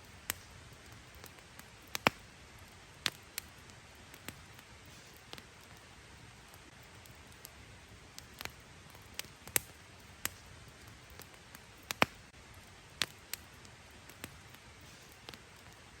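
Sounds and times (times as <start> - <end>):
campfire crackling and popping: 0.0 - 16.0
faint steady hiss: 0.0 - 16.0.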